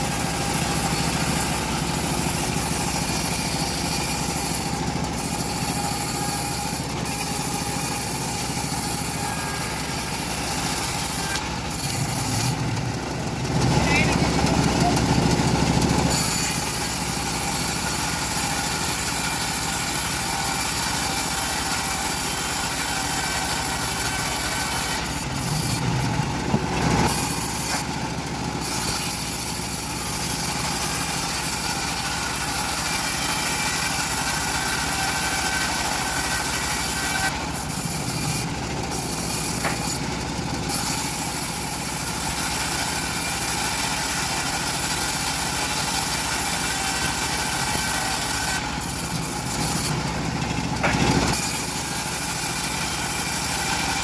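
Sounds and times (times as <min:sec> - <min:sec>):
saw blade hissing in wood: 0:00.0 - 0:12.6, 0:16.1 - 0:26.1, 0:27.0 - 0:27.9, 0:28.6 - 0:40.0, 0:40.7 - 0:49.9
engine drone: 0:00.0 - 0:54.0.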